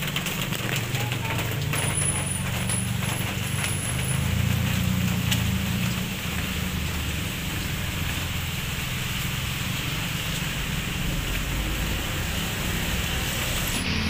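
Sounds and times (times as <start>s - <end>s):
car engine rumbling: 0.0s - 14.0s
light rain hiss: 0.0s - 14.0s.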